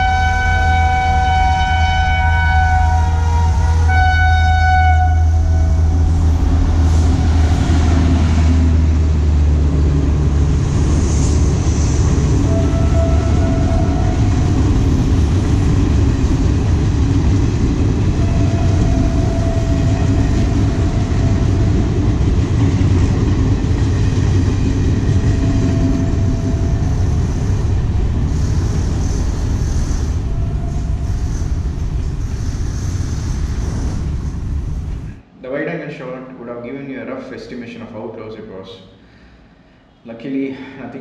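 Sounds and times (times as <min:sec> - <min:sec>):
train coaches rumbling on rails: 0:00.0 - 0:35.2.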